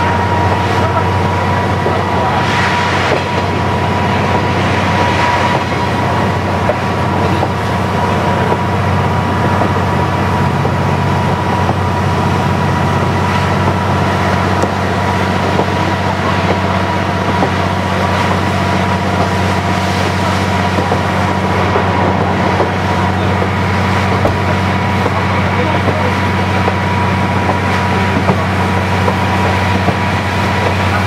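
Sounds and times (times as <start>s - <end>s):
diesel railcar engine drone: 0.0s - 31.0s
wheels rumbling on rails: 0.0s - 31.0s.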